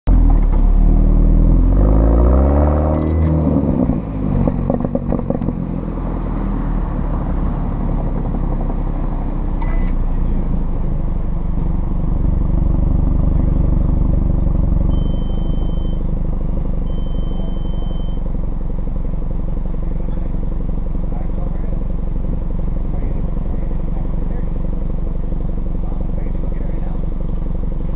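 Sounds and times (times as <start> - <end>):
car exhaust revving: 0.1 - 27.9
exhaust crackling: 0.1 - 27.9.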